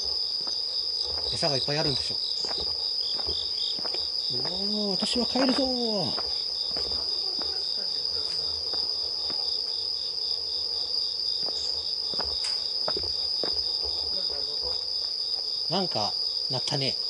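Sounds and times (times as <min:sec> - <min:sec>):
insects trilling: 0:00.0 - 0:17.0
pulsing insect chirp: 0:00.0 - 0:17.0.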